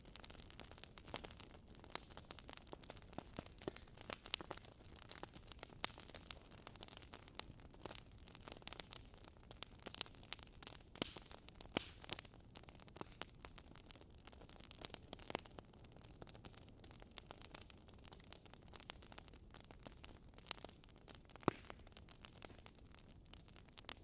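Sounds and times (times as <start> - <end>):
faint steady hiss: 0.0 - 24.0
wood fire crackling: 0.0 - 24.0.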